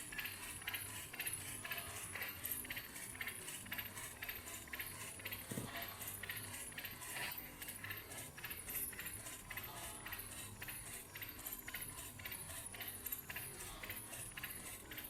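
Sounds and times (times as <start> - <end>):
engine clicking rattle: 0.0 - 15.0
steady low hum: 0.0 - 15.0.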